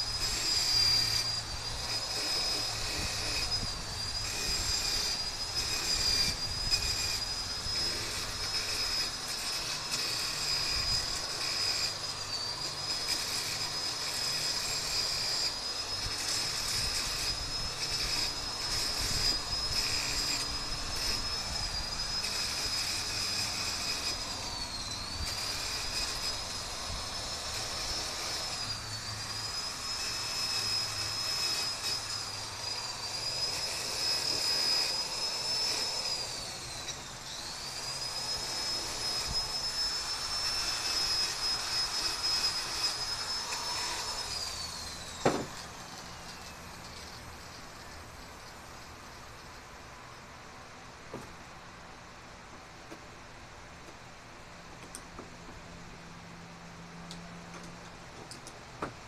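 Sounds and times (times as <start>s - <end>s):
angle grinder grinding metal: 0.0s - 49.6s.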